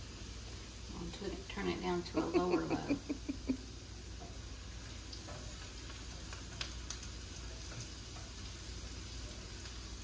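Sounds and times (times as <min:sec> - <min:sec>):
onions sizzling in butter: 0:00.0 - 0:10.0.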